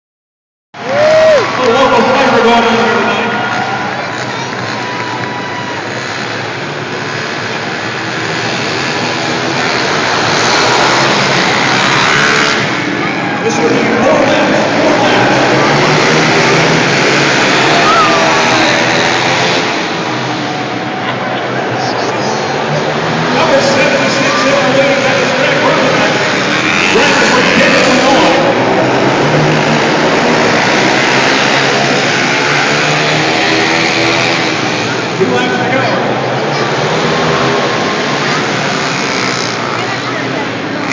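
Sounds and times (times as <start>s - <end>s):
pit bike engines revving: 0.8s - 40.9s.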